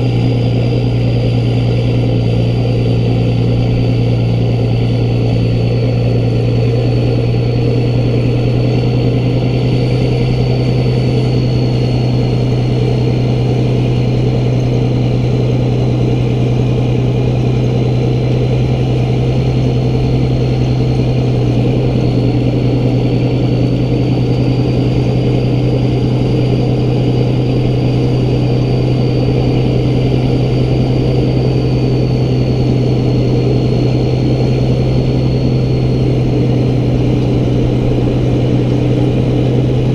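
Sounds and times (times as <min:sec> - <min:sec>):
road noise: 0:00.0 - 0:39.9
truck engine droning: 0:00.0 - 0:39.9.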